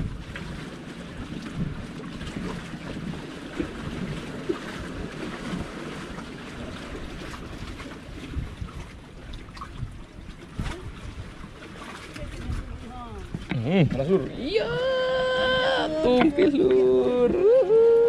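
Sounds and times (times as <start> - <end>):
waves lapping: 0.0 - 18.0
wind buffeting microphone: 0.0 - 18.0.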